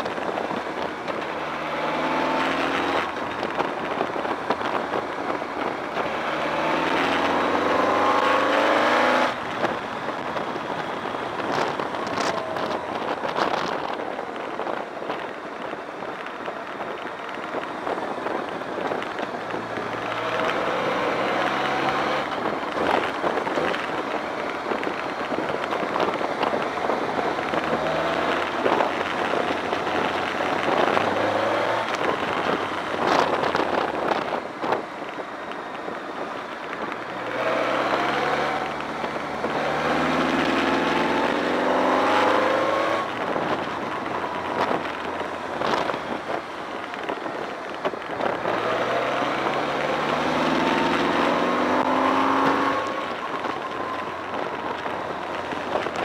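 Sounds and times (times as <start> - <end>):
motorcycle engine revving: 0.0 - 15.2, 16.2 - 56.0
tyres on wet road: 0.0 - 56.0
wind rush: 0.0 - 56.0.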